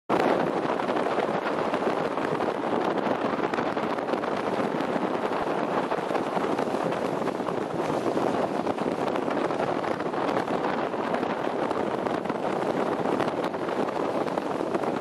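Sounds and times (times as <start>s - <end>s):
wind on microphone: 0.1s - 15.0s.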